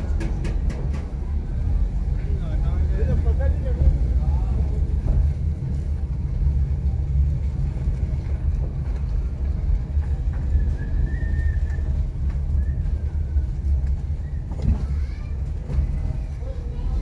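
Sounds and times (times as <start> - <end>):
low street rumble: 0.0 - 17.0.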